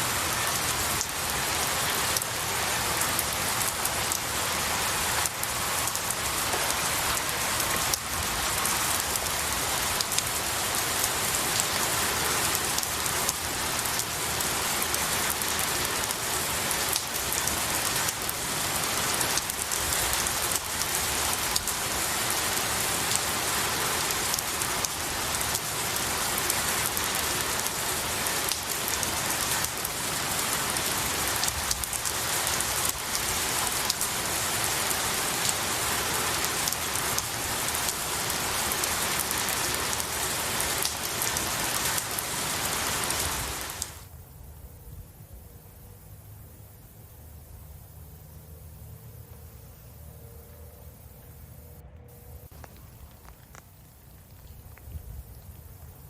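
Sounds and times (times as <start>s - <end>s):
rain on pine trees: 0.0s - 48.8s, 52.5s - 56.0s.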